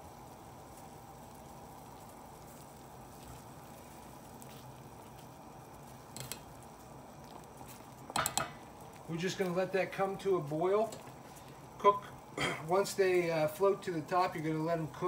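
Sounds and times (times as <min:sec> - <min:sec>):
water boiling in a pot: 0:00.0 - 0:15.0.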